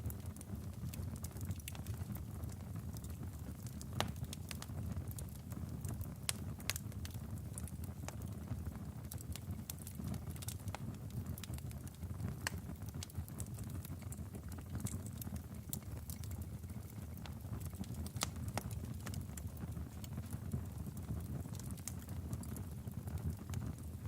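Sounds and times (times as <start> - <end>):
log fire crackling and popping: 0.0 - 24.0.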